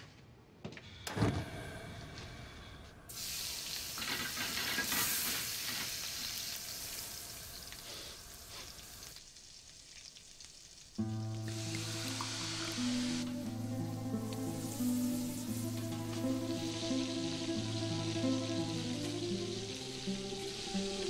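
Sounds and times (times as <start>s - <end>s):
sizzling in hot oil: 3.1s - 21.0s.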